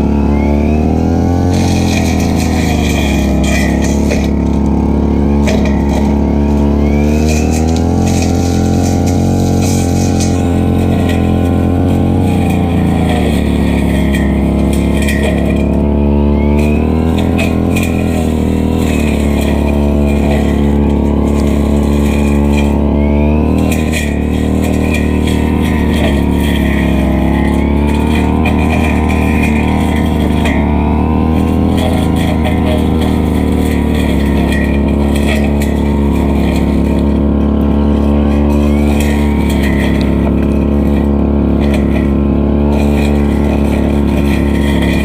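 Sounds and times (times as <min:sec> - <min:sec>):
brushcutter engine cutting grass: 0:00.0 - 0:45.0.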